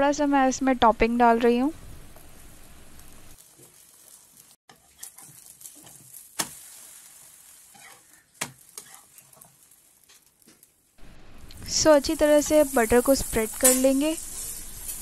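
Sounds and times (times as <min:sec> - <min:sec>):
omelette sizzling in butter: 0:02.1 - 0:11.0, 0:11.6 - 0:15.0.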